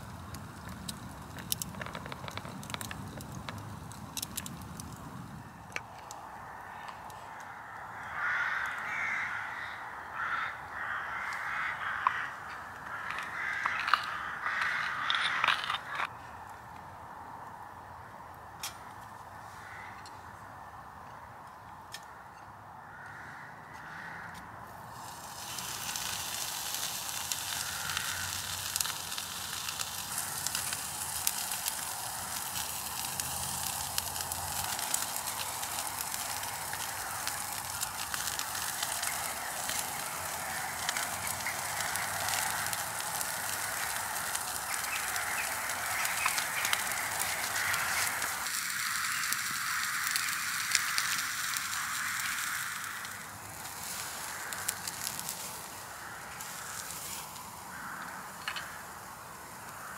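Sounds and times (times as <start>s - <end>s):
meat sizzling on grill: 0.0s - 6.9s, 7.5s - 16.0s, 24.9s - 59.9s
fire crackling: 0.0s - 19.8s, 24.7s - 59.9s.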